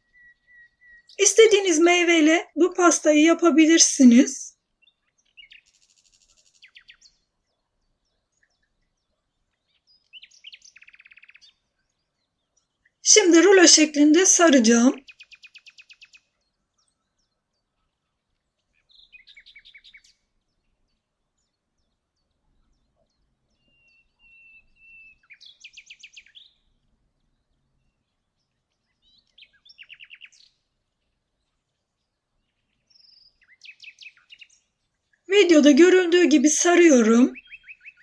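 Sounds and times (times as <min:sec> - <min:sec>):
small bird chirping: 0:00.0 - 0:02.0, 0:04.8 - 0:13.0, 0:15.0 - 0:38.0.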